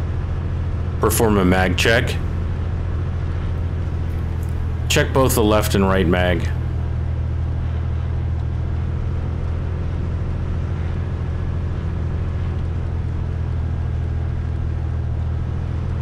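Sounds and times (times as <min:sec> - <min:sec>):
aircraft piston engine running: 0:00.0 - 0:16.0.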